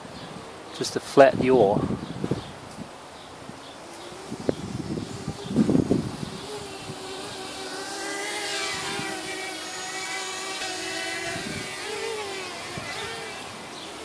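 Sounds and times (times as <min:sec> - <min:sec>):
wind buffeting microphone: 0:01.2 - 0:14.0
quadcopter motors whining: 0:01.7 - 0:14.0.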